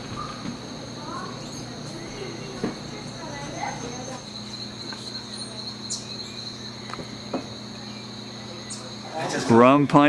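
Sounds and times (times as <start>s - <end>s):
insects trilling: 0.0s - 10.0s
low steady hum: 0.0s - 10.0s.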